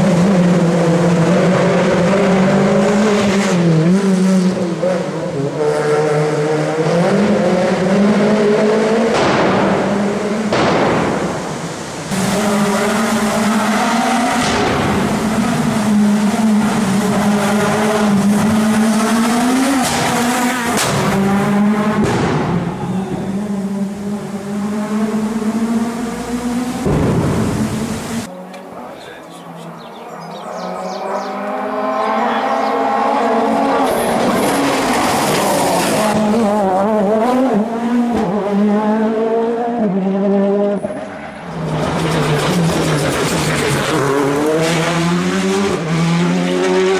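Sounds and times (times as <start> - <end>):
car engine at high revs: 0.0 - 46.9.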